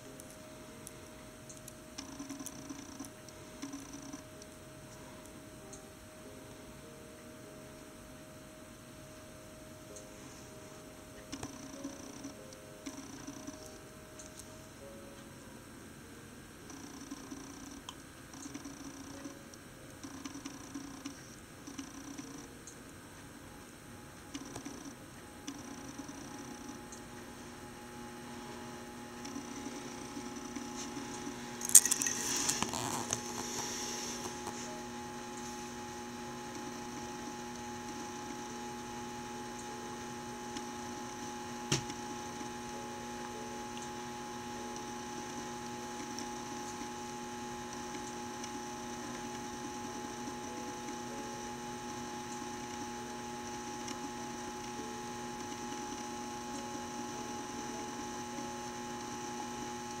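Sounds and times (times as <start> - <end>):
electrical hum with tones: 0.0 - 60.0.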